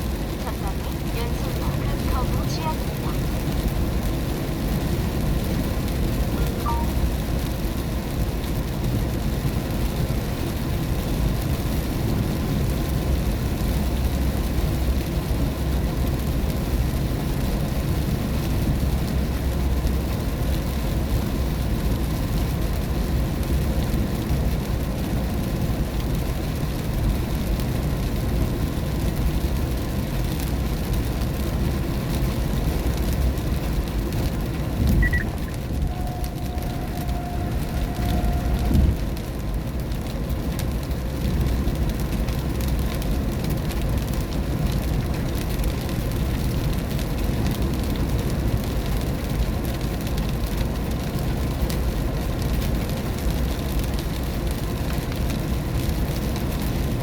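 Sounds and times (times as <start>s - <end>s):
rain and wet road hiss: 0.0s - 57.0s
road and tyre rumble in car: 0.0s - 57.0s.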